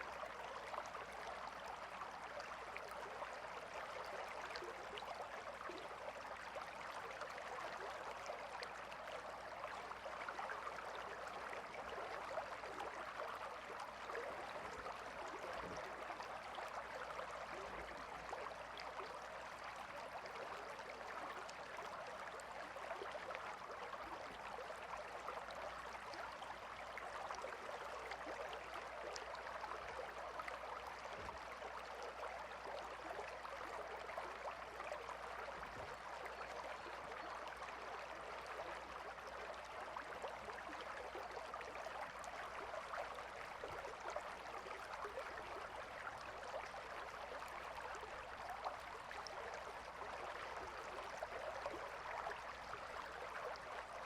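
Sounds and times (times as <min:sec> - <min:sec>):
water babbling: 0:00.0 - 0:54.0.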